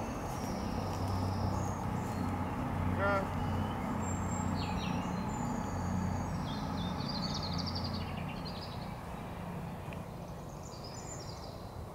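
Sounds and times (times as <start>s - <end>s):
small birds chirping and trilling: 0.0s - 11.9s.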